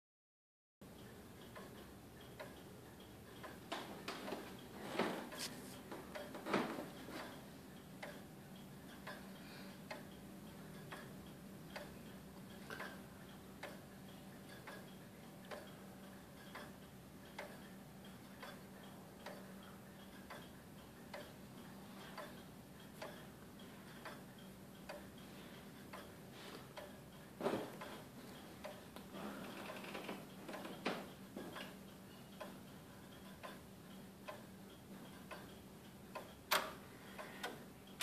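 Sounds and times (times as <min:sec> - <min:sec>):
clock ticking: 0:00.8 - 0:38.0.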